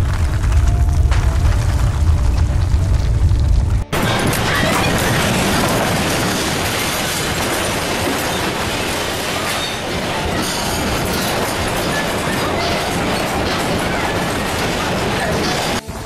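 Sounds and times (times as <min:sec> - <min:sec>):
storm rushing: 0:00.0 - 0:15.8.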